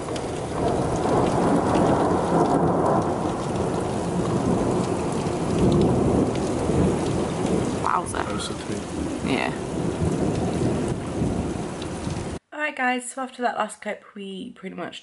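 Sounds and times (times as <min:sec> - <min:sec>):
rain hissing: 0:00.0 - 0:12.4
rolling thunder rumble: 0:00.0 - 0:12.4.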